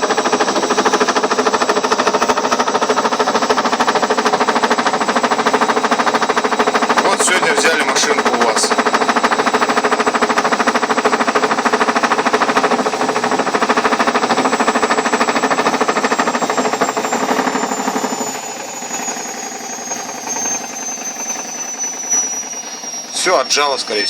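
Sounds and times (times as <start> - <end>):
washing machine motor whine: 0.0 - 24.0.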